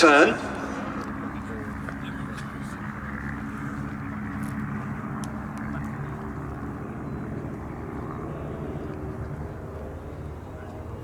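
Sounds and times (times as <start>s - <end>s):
propeller aircraft droning: 0.0s - 11.0s.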